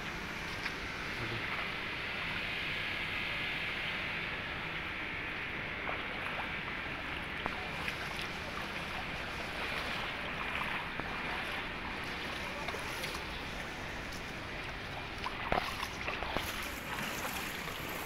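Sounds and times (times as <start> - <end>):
wash of floodwater: 0.0 - 18.0.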